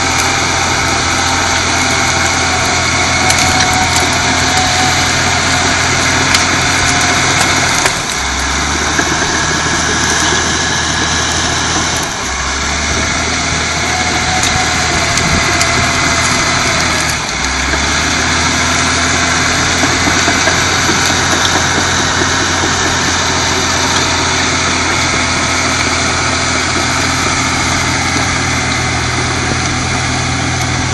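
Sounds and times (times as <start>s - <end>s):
clattering tracks: 0.0s - 30.9s
diesel engine working under load: 0.0s - 30.9s.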